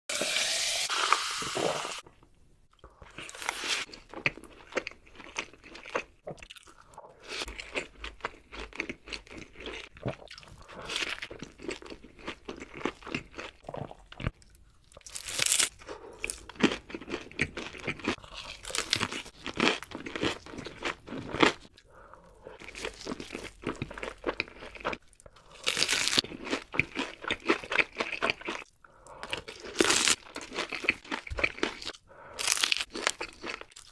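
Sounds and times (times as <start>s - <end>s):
crunchy food chewing: 2.8s - 33.9s.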